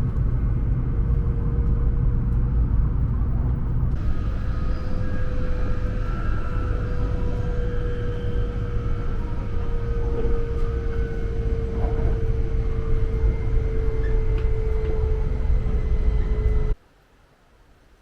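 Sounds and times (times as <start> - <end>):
train running with motor whine: 0.0 - 16.8.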